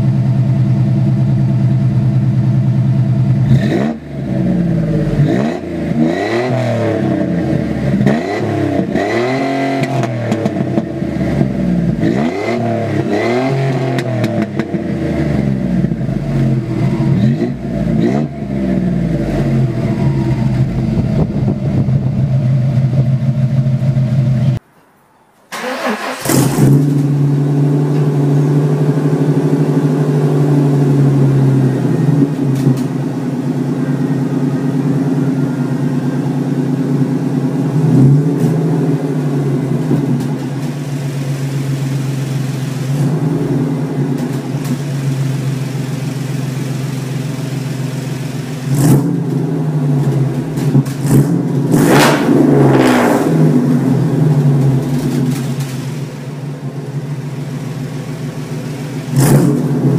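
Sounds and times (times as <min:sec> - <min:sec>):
car engine idling: 0:00.0 - 0:24.6, 0:25.5 - 0:59.9
car engine revving: 0:02.4 - 0:24.6, 0:25.5 - 0:59.9.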